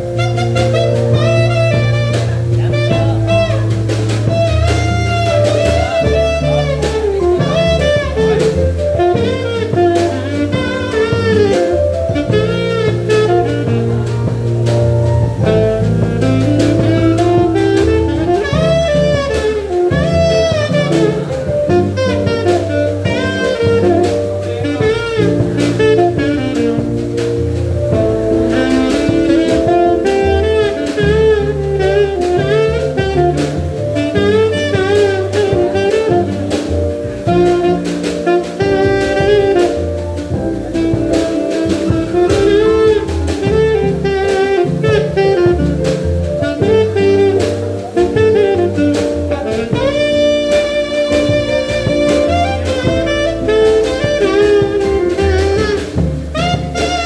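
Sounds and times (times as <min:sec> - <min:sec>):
bass line: 0:00.0 - 0:57.0
live band with drums: 0:00.0 - 0:57.0
saxophone jazz melody: 0:00.0 - 0:57.0.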